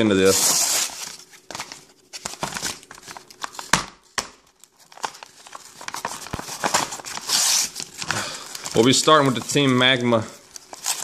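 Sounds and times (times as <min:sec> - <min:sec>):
cardboard tearing and crackling: 0:00.2 - 0:03.9, 0:04.6 - 0:11.0.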